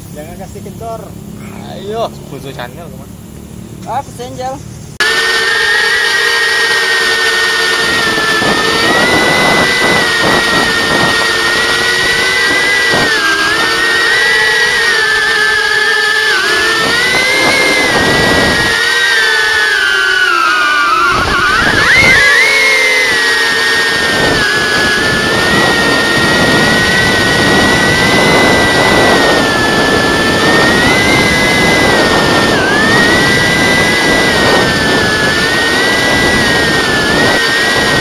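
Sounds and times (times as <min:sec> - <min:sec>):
drone motors whining: 0:00.0 - 0:38.0.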